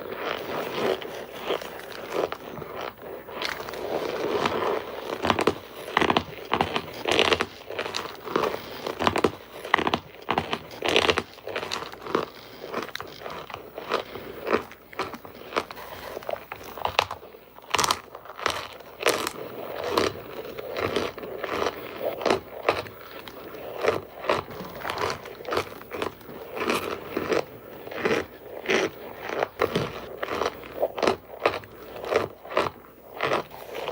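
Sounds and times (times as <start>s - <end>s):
chewing hard crunchy food: 0.0s - 33.9s.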